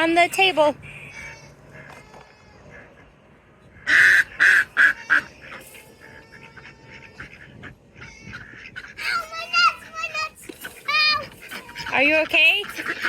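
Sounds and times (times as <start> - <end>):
ducks quacking: 0.1 - 13.0.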